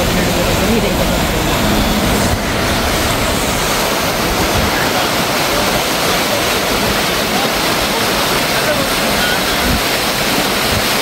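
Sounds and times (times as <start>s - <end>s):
car splashing through floodwater: 0.0s - 11.0s.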